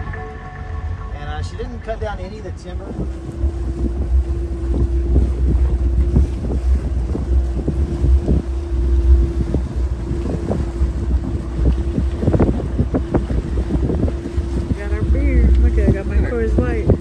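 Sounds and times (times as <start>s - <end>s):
motorboat engine hum: 0.0s - 17.0s
water splashing against hull: 0.0s - 17.0s
wind buffeting microphone: 1.3s - 17.0s.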